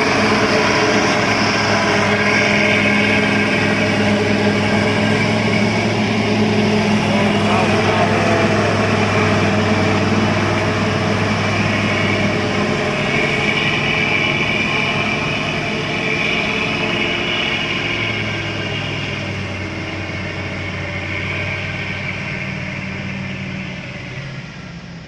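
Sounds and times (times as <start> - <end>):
bulldozer diesel engine running: 0.0 - 25.0
high-pitched whine: 0.0 - 25.0.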